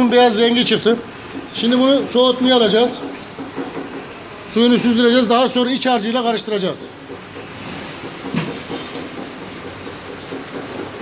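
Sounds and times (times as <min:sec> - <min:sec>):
kitchen background hiss and rumble: 0:00.0 - 0:11.0.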